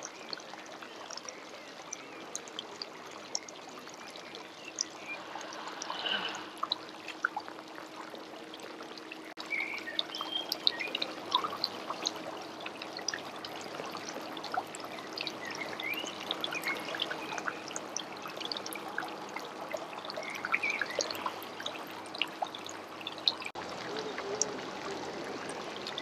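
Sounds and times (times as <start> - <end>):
small splashy ticks: 0.0 - 26.0
water trickling and pouring: 0.0 - 26.0.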